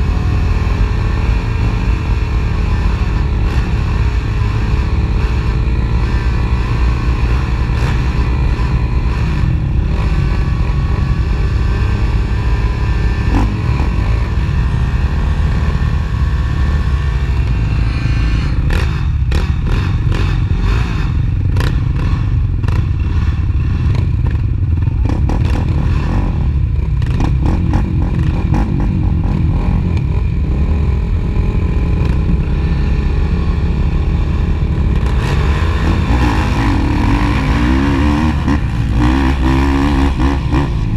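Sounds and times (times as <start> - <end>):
quad engines revving: 0.0 - 40.9.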